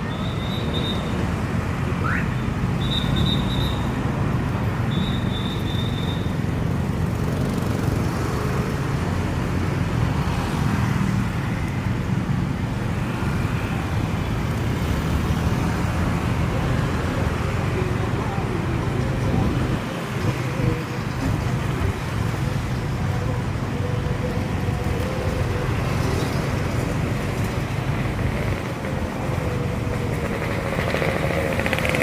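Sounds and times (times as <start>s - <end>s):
passing cars and motorbikes: 0.0s - 32.0s.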